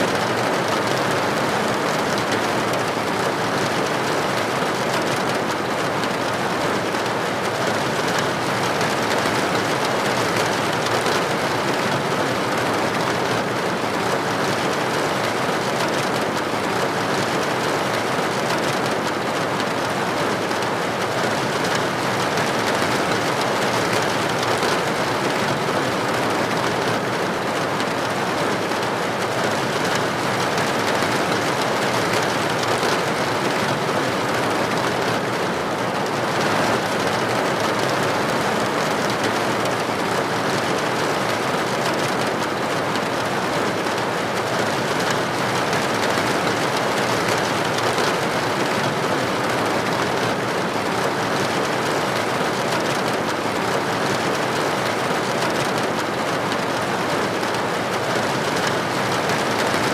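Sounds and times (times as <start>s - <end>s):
heavy rain on hard surface: 0.0s - 59.9s.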